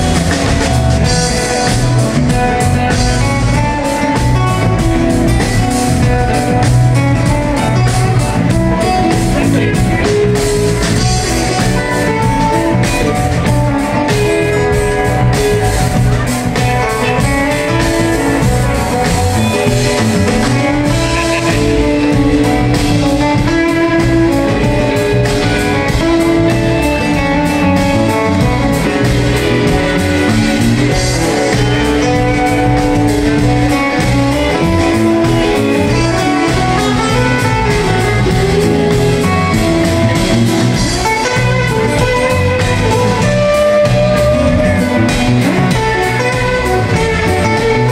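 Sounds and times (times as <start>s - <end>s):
band playing music: 0.0s - 47.9s
plucked guitar lines: 0.0s - 47.9s.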